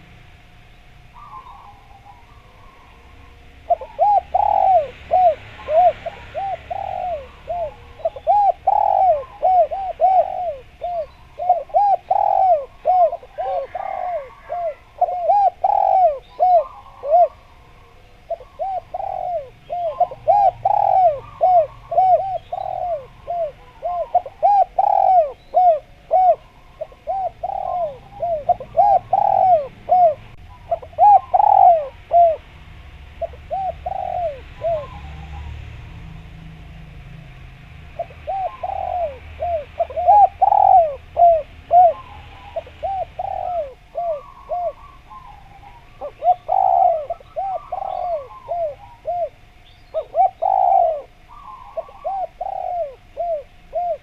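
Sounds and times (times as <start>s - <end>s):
doves cooing: 0.0s - 36.9s, 37.8s - 54.0s.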